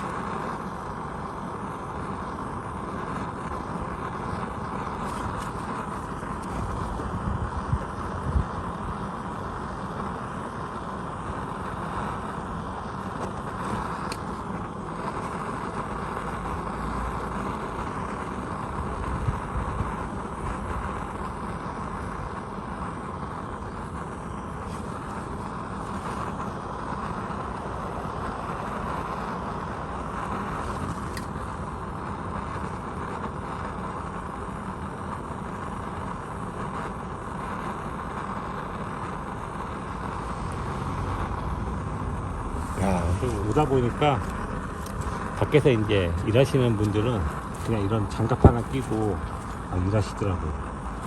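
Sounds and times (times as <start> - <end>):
faint steady hum: 0.0 - 51.0
machine hiss with low rumble: 0.0 - 51.0.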